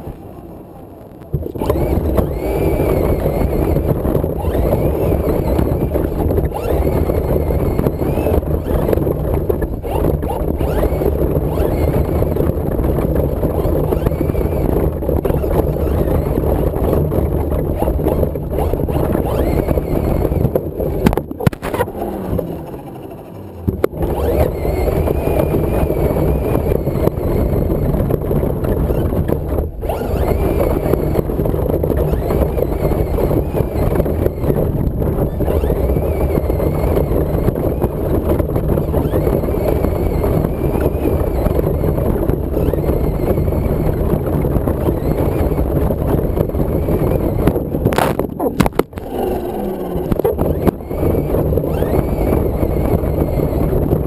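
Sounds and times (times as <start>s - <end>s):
toy truck motor and tyres rumbling: 0.0s - 54.0s.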